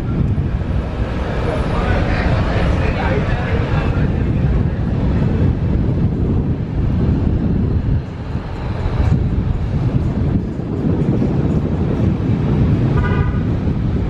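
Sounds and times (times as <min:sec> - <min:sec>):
car rumbling along street: 0:00.0 - 0:14.0
traffic noise: 0:00.0 - 0:14.0.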